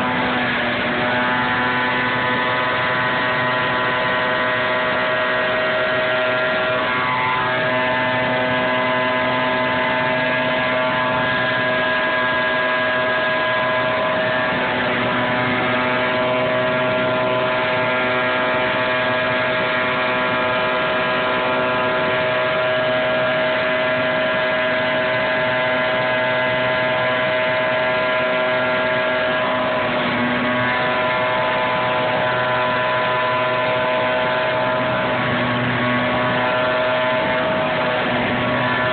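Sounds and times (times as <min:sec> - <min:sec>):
leaf vacuum fan tones: 0:00.0 - 0:38.9.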